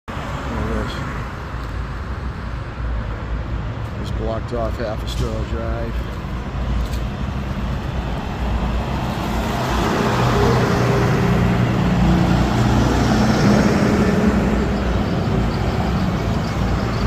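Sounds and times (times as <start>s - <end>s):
vehicle engine and road rumble: 0.1s - 17.0s.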